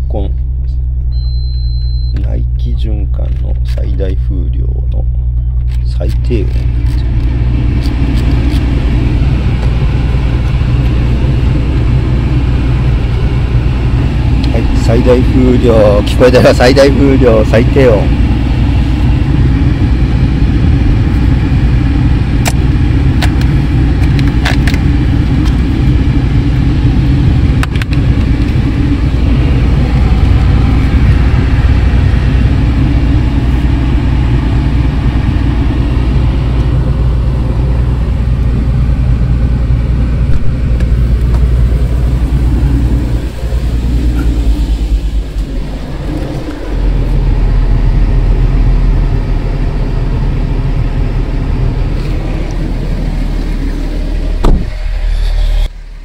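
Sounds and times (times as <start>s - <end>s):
car blower fan rushing air: 0.0s - 56.0s
engine idling hum: 0.0s - 56.0s.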